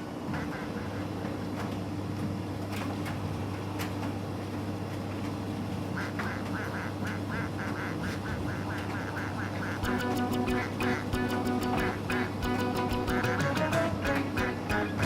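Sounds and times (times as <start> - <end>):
tumble dryer humming: 0.0 - 15.0.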